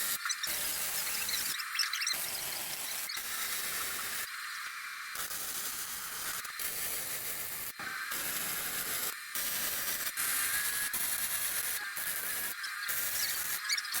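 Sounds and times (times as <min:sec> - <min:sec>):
welding arc hiss and sizzle: 0:00.0 - 0:14.0.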